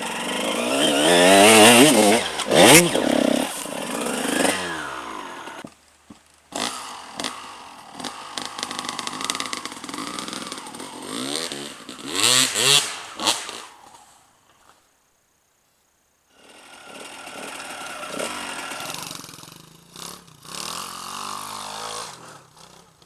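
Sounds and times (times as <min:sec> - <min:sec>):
motorcycle engines revving: 0:00.0 - 0:05.7, 0:06.5 - 0:14.0, 0:16.4 - 0:23.0.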